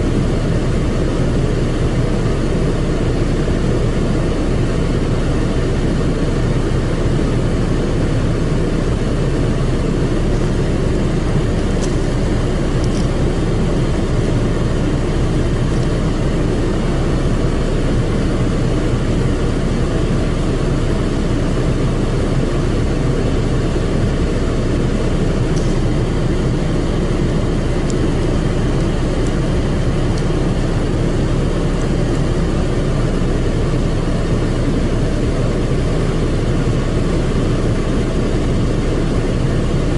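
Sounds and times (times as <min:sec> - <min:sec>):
car wash machine running: 0:00.0 - 0:39.9.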